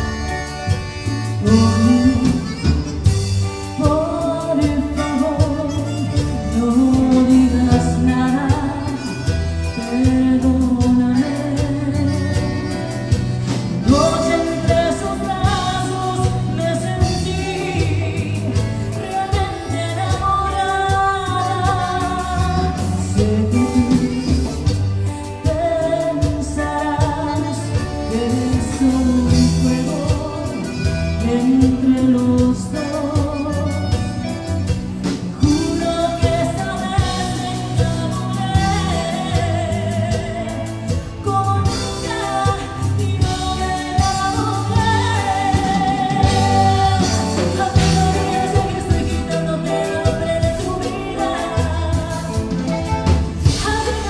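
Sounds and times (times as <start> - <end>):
button accordion: 0.0 - 54.0
live band playing: 0.0 - 54.0
woman singing: 0.0 - 54.0.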